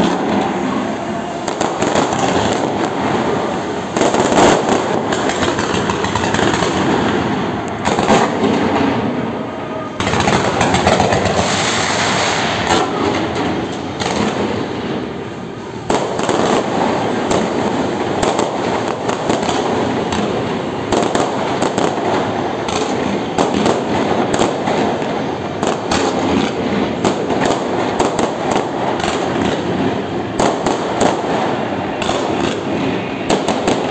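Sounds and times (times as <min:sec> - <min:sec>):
fireworks crackling: 0:00.0 - 0:33.9.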